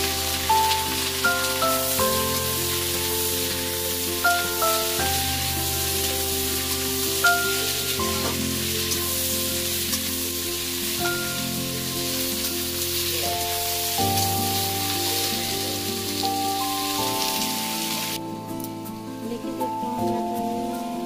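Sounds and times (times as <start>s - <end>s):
onions sizzling in hot oil: 0.0s - 18.8s
background music of held notes: 0.0s - 21.0s.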